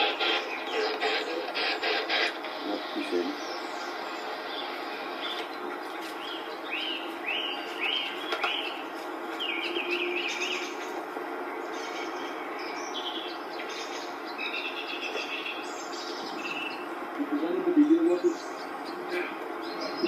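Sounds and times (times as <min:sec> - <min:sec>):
bird chirping: 0:00.0 - 0:02.0, 0:03.0 - 0:20.0
steady background hiss: 0:00.0 - 0:20.0.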